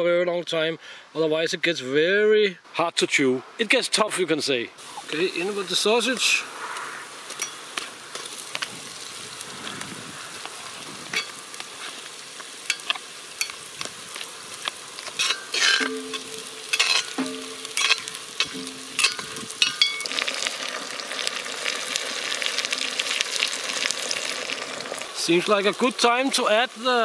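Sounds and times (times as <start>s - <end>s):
sausage sizzling in hot oil: 4.8s - 27.0s.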